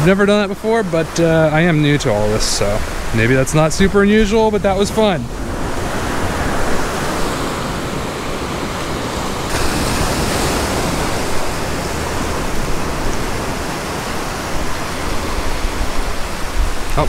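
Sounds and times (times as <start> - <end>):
surf washing up beach: 0.0 - 17.0
wind rumble on microphone: 2.7 - 17.0.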